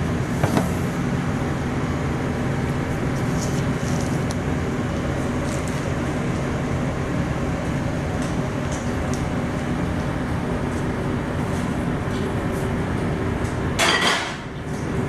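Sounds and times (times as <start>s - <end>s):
mechanical droning hum: 0.0s - 15.0s.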